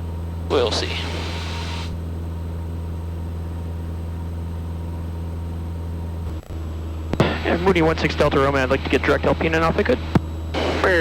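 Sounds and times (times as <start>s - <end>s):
airplane engine and propeller drone: 0.0s - 11.0s.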